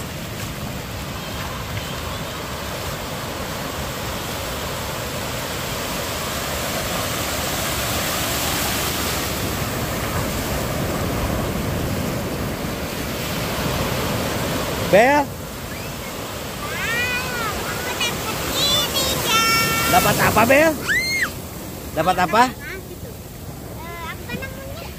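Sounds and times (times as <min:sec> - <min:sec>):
ocean surf breaking on sand: 0:00.0 - 0:24.9.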